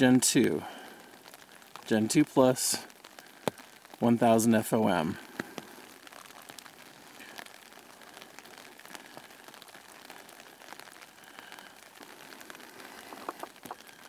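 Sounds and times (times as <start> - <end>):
raindrop ticks: 0.0 - 14.0
steady rainfall: 0.0 - 14.0.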